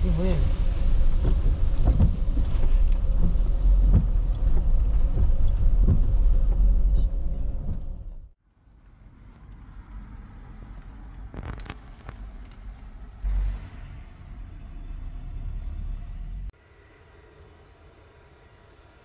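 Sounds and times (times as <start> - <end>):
engine and road rumble inside van: 0.0 - 16.6.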